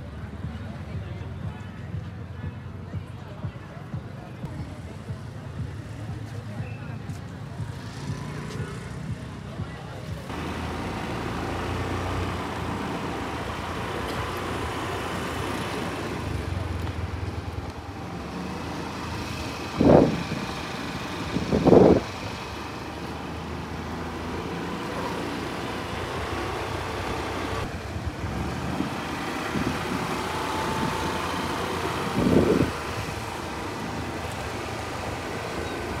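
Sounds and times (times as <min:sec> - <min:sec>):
road and traffic noise: 0:00.0 - 0:36.0.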